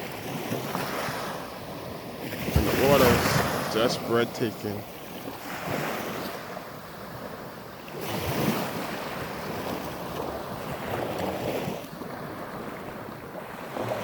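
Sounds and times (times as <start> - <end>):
ocean surf on sandy beach: 0.0 - 14.0.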